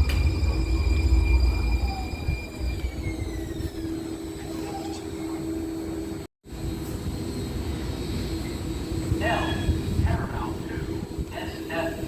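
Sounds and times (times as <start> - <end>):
train motor whine: 0.0 - 11.3
low hum and rumble: 0.0 - 12.0.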